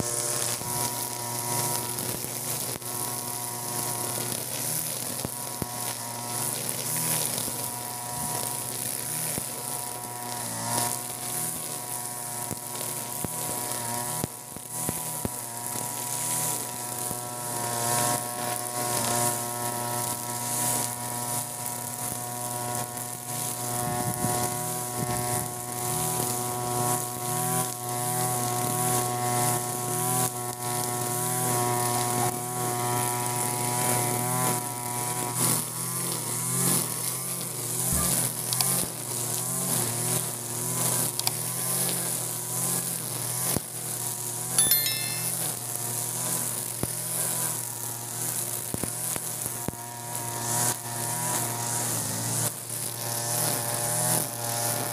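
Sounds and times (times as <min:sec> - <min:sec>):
brush cutter running: 0:00.0 - 0:44.4, 0:45.6 - 0:54.9
trimmer line whipping grass: 0:00.0 - 0:44.4, 0:45.6 - 0:54.9.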